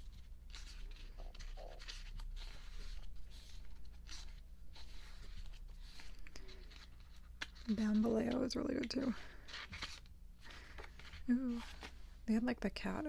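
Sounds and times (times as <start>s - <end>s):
photobook pages turning: 0.0s - 12.1s.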